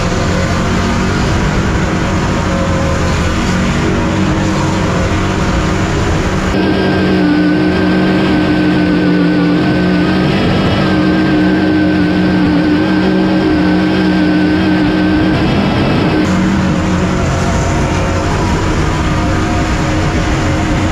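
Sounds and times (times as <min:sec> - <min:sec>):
supercharged engine revving high: 0:00.0 - 0:20.9.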